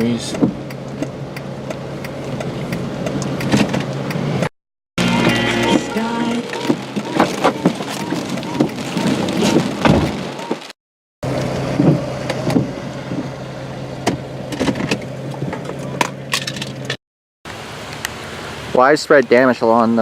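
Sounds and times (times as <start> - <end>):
car engine and road hum: 0.0 - 20.0.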